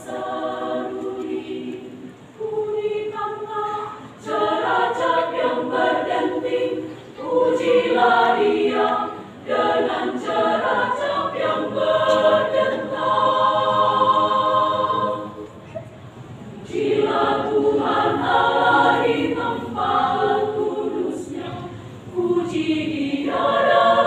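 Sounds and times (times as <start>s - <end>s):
women's choir singing: 0.0s - 15.7s, 16.6s - 24.0s.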